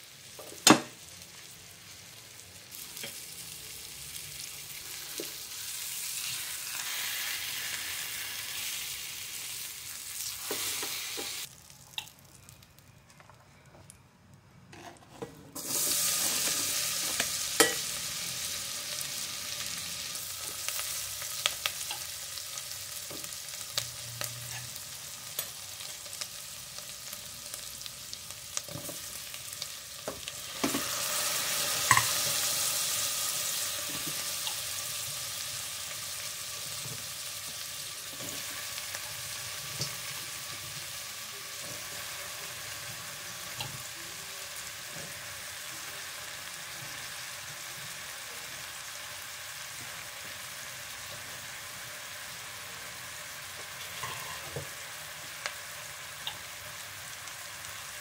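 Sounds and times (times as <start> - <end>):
butter and oil sizzling: 0.0 - 12.8, 15.6 - 58.0.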